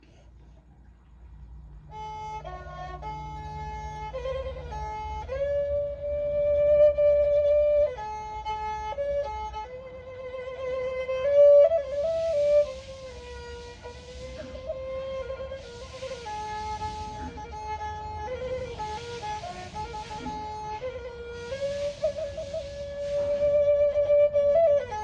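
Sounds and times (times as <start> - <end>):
bowed fiddle slow melody: 1.7 - 25.0.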